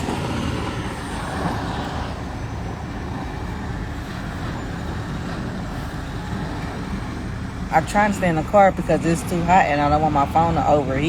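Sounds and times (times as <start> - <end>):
heavy vehicle engines rumbling: 0.0 - 11.0
street traffic: 0.0 - 11.0.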